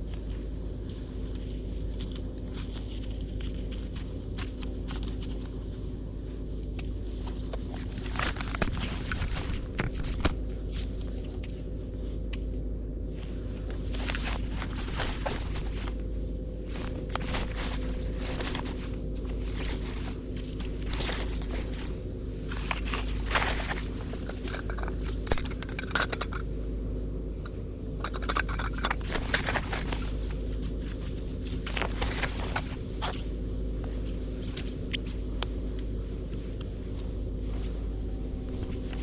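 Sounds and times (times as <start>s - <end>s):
objects being handled: 0.0s - 26.5s, 27.4s - 39.0s
steady low hum: 0.0s - 39.0s.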